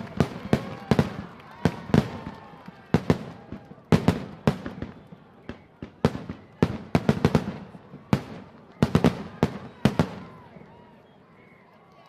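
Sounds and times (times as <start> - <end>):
fireworks bursting with loud bangs: 0.0 - 10.9.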